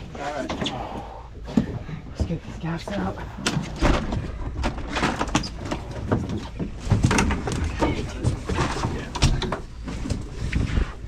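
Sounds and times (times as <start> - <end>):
knocks and thumps on boat deck: 0.4 - 11.0.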